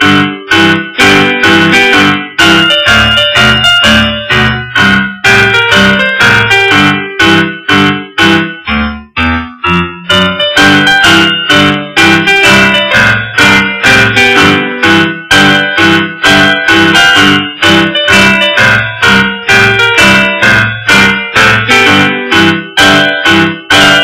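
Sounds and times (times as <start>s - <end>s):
piano playing chords: 0.0s - 24.0s.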